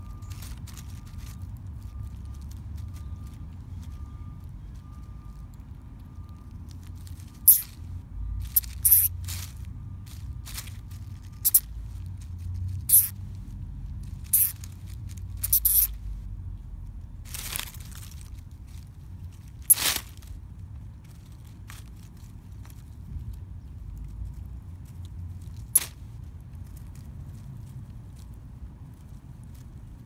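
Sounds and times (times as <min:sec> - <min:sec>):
dry leaves crackling and rustling: 0:00.0 - 0:30.0.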